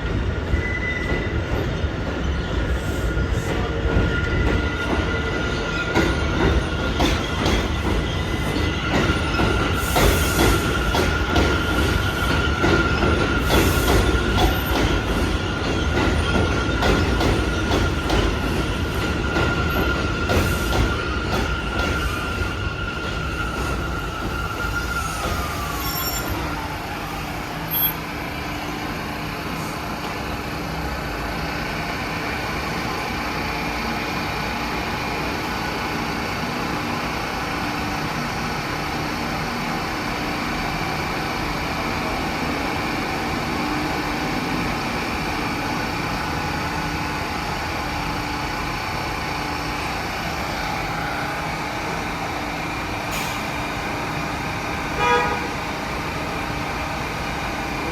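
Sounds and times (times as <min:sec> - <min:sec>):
subway train motor whine: 0:02.7 - 0:57.9.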